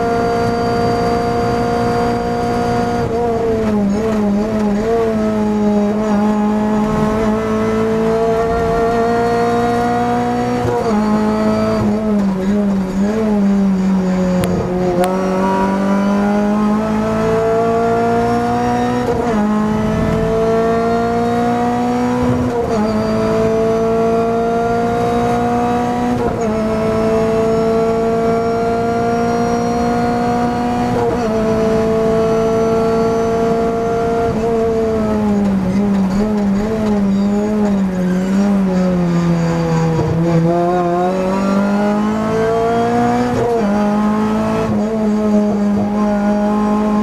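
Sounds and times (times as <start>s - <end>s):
race car engine revving: 0.0s - 47.0s
car braking: 0.2s - 47.0s.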